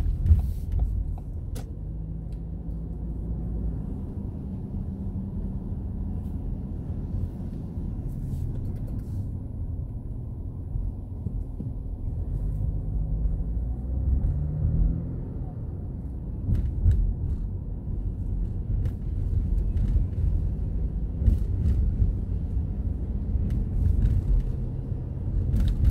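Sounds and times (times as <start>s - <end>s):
engine and tyres rumble on wet road: 0.0s - 25.9s
engine hum: 0.0s - 25.9s.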